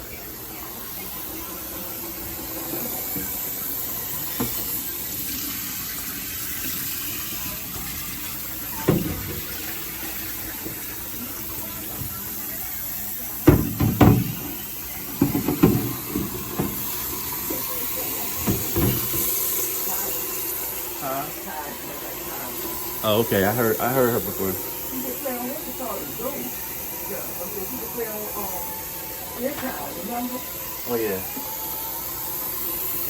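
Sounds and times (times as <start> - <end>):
water running: 0.0 - 33.0.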